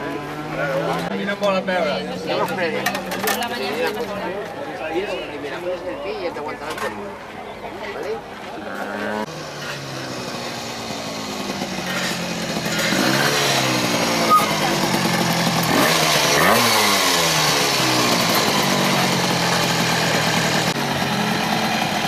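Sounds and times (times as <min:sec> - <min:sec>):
minibike engines revving: 0:00.0 - 0:04.2, 0:08.6 - 0:22.0.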